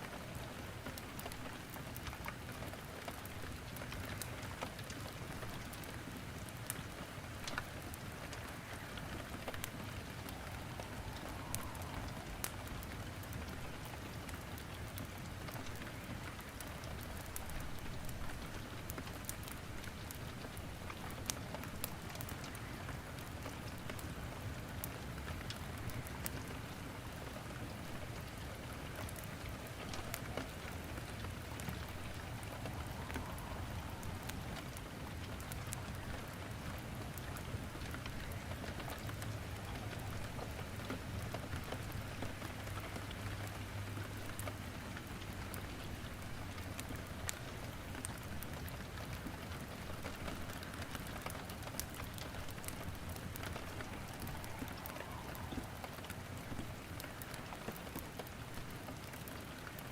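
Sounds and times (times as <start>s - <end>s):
steady rain: 0.0s - 59.9s
wood crackling in fireplace: 0.0s - 59.9s.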